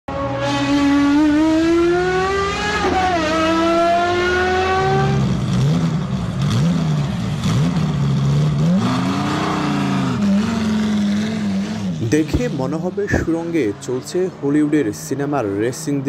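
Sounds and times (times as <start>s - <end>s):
sports car accelerating hard: 0.1s - 13.2s
engines revving in throttle blips: 0.1s - 16.0s.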